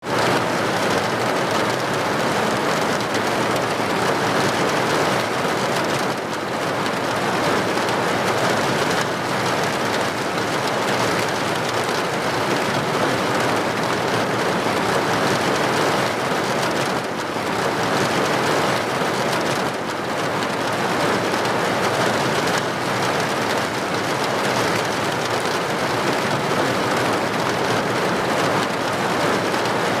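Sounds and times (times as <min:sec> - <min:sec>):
steady rain: 0:00.1 - 0:30.0.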